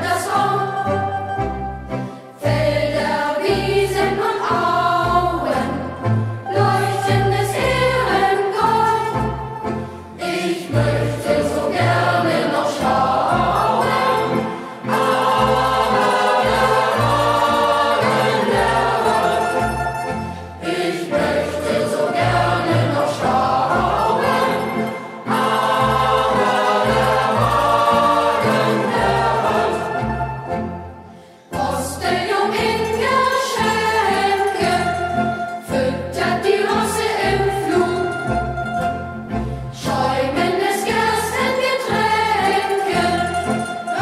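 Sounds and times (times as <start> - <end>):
youth choir singing in unison: 0.0 - 1.2, 2.4 - 9.4, 10.2 - 30.6, 31.5 - 38.4, 39.7 - 44.0
instrumental accompaniment: 0.0 - 44.0.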